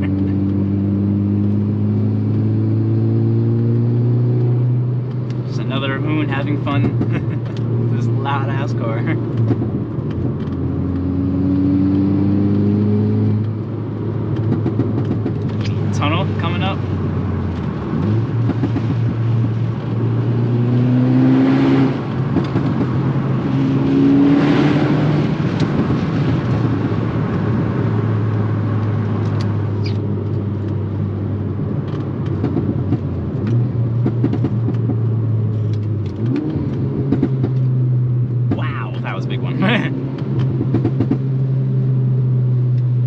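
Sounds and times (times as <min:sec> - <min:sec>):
turbocharged car engine revving: 0:00.0 - 0:43.0.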